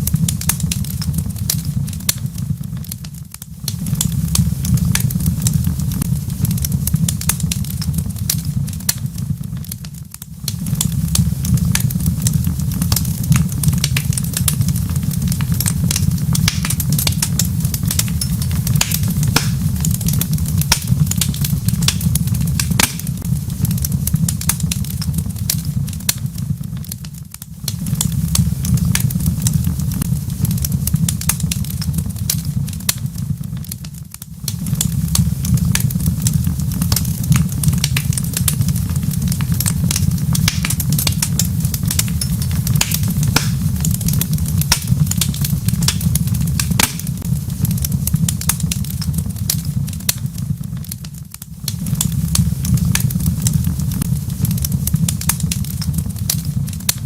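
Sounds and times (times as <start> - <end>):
steady low rumble: 0.0 - 57.0
wood fire crackling and popping: 0.0 - 57.0.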